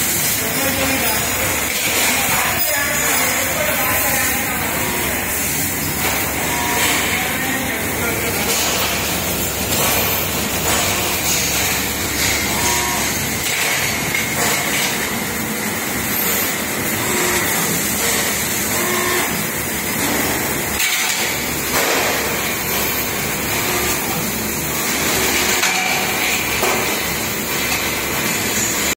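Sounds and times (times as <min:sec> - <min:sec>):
machinery hum and hiss: 0:00.0 - 0:28.9.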